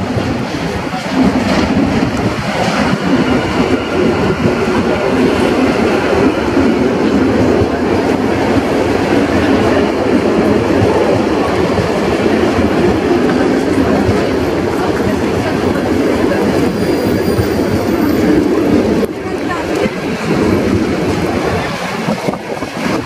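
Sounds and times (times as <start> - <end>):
locomotive passing: 0.0 - 23.0
wheels running on rails: 0.0 - 23.0.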